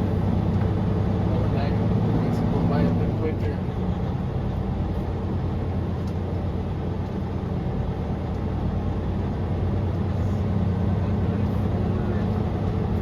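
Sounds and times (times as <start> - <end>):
truck diesel engine humming: 0.0 - 13.0.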